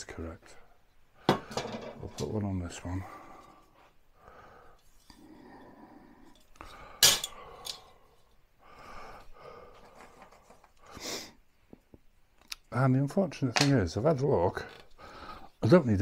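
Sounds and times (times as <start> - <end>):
soft rustling of parts: 0.0 - 16.0.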